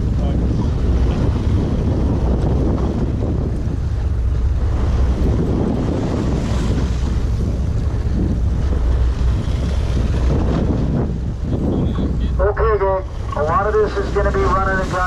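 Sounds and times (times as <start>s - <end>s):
steady low rumble: 0.0s - 15.0s
water rushing past boat: 0.0s - 15.0s
wind buffeting microphone: 0.0s - 15.0s.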